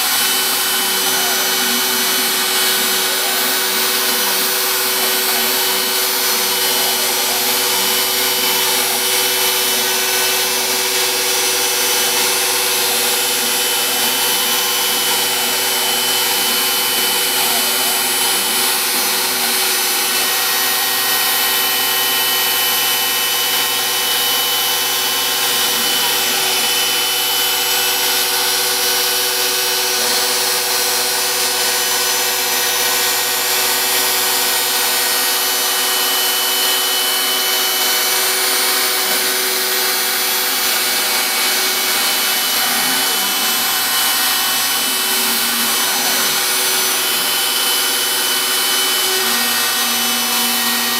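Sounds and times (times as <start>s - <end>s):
router cutting wood: 0.0s - 50.9s
router spindle high whine: 0.0s - 50.9s.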